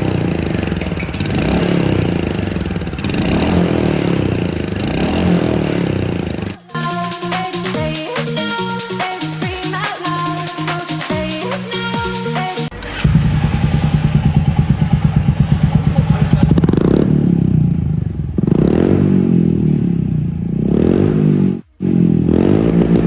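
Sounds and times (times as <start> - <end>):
motorcycle engine idling and revving: 0.0 - 6.6, 7.2 - 23.0.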